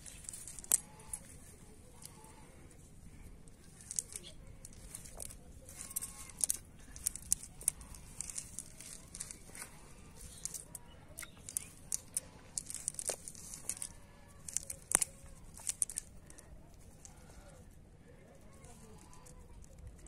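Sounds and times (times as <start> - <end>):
cast net rustling on dry grass: 0.0 - 16.4.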